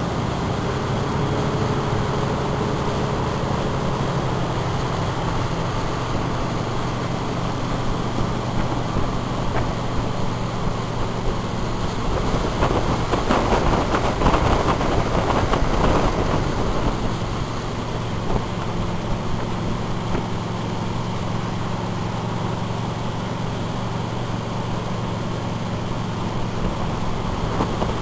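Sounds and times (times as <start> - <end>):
boat engine running: 0.0 - 28.0
rushing wind: 0.0 - 28.0
water noise: 0.0 - 28.0.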